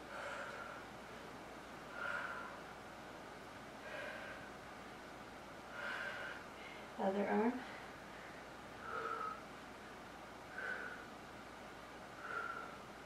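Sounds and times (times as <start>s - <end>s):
woman breathing: 0.0s - 2.8s, 3.8s - 4.8s, 5.6s - 13.0s.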